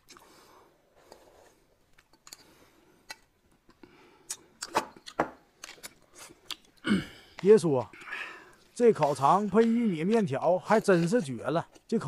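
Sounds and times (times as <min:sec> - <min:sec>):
chewing and crunching food: 0:00.0 - 0:12.0.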